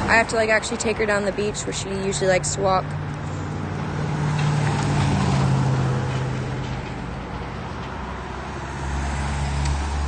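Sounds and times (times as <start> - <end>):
vehicle passing: 0.0 - 10.0.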